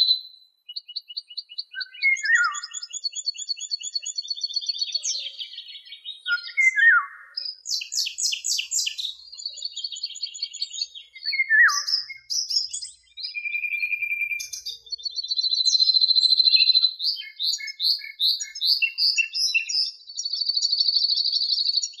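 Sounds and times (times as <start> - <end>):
long steady bird trill: 0.0 - 22.0
songbirds singing: 0.0 - 22.0.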